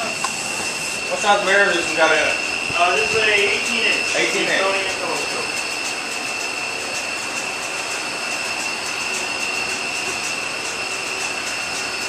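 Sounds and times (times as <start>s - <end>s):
mechanical hiss: 0.0s - 11.8s
high-pitched whine: 0.0s - 12.0s.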